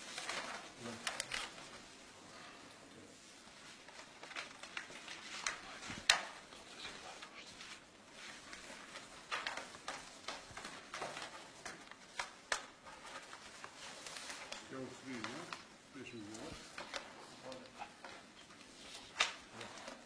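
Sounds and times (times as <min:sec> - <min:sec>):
paper rustling: 0:00.0 - 0:20.0.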